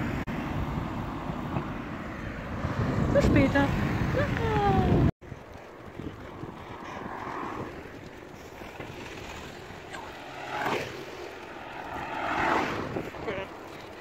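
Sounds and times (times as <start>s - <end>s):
bicycle road noise: 0.0s - 14.0s
motor traffic passing: 0.0s - 14.0s
wind on microphone: 0.5s - 14.0s.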